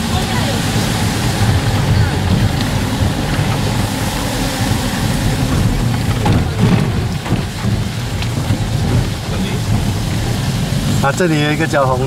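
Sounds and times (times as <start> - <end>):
car road noise on gravel: 0.0 - 12.0.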